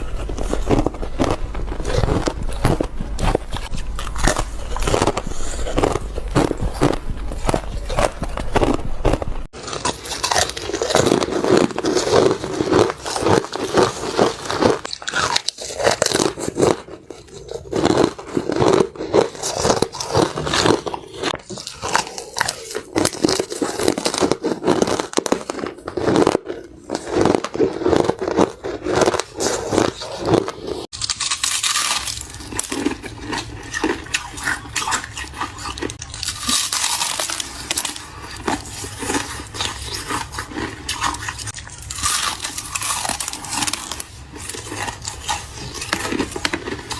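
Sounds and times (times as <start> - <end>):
crunchy ice chewing: 0.0 - 46.9.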